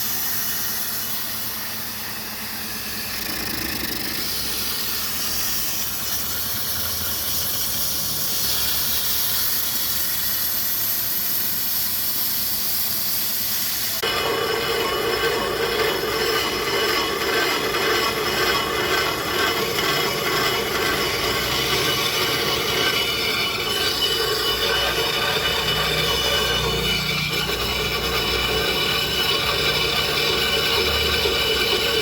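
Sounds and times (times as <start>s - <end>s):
machinery metallic rubbing screech: 0.0s - 32.0s
rough grinding noise: 0.0s - 32.0s.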